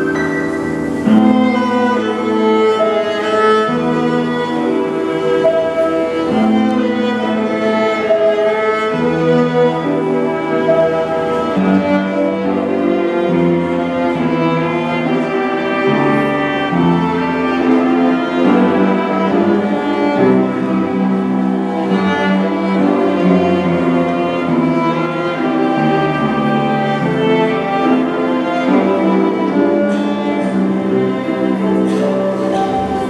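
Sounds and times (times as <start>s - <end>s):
upright piano accompaniment: 0.0s - 33.0s
violins playing carol melody: 0.0s - 33.0s.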